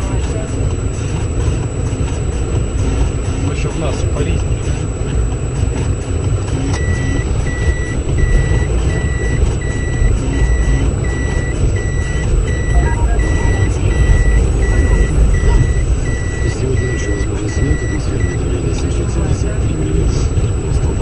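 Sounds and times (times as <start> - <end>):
low engine rumble: 0.0 - 21.0
vehicle warning beeper: 2.6 - 21.0.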